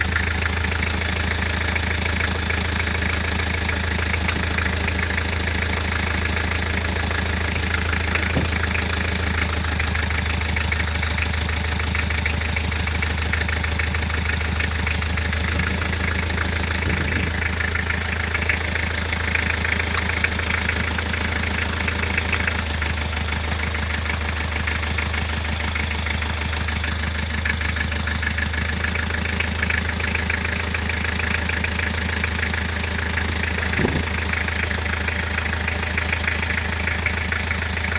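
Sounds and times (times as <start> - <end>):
car engine idling: 0.0 - 37.9
fast regular engine knock: 0.0 - 37.9.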